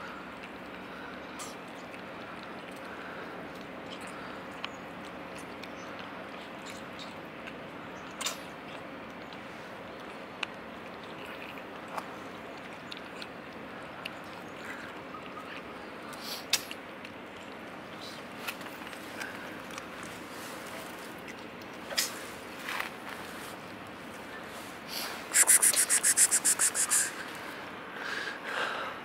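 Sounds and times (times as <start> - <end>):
outdoor background hiss: 0.0 - 29.0
cats crunching dry kibble: 0.2 - 24.5.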